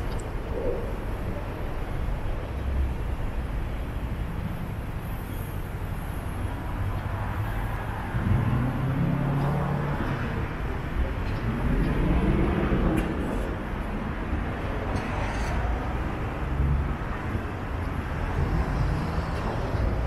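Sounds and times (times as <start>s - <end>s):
street traffic noise: 0.0s - 20.0s
vehicle engine low hum: 0.0s - 20.0s.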